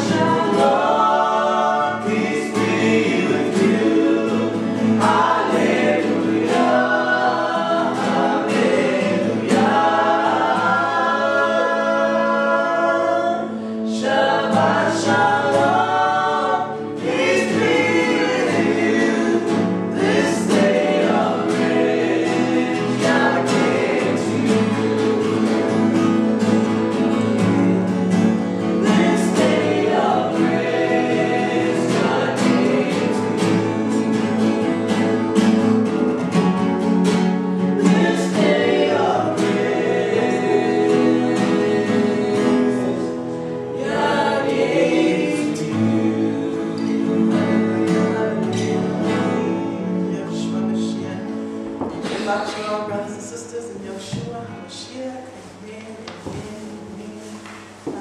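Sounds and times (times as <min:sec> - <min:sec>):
chorus of voices singing: 0:00.0 - 0:58.0.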